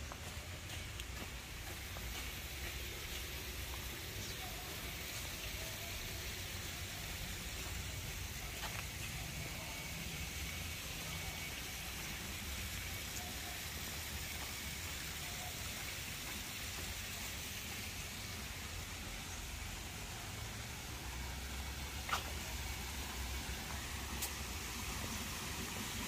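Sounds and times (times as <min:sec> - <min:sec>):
even hiss: 0:00.0 - 0:26.0.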